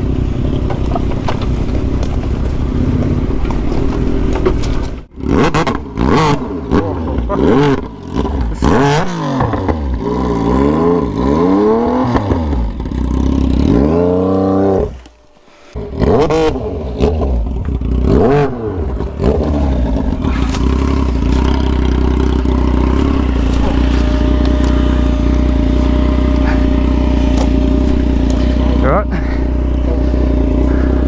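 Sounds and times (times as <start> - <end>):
motorcycle engine revving and idling: 0.0 - 31.0.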